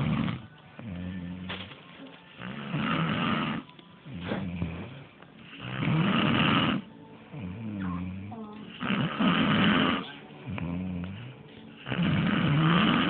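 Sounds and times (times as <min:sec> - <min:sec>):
person snoring: 0:00.0 - 0:01.6, 0:02.4 - 0:13.0
quiet pitched breaths: 0:00.0 - 0:13.0.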